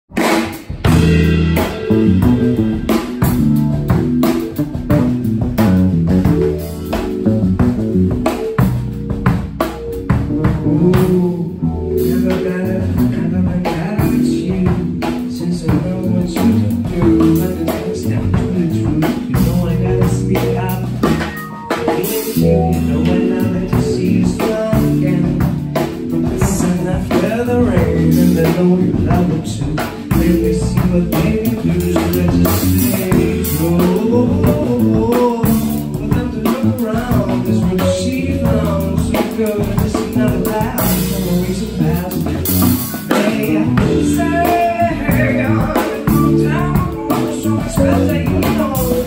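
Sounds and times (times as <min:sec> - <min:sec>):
bass: 0:00.0 - 0:49.0
drum kit beat: 0:00.0 - 0:49.0
keyboard: 0:00.1 - 0:49.0.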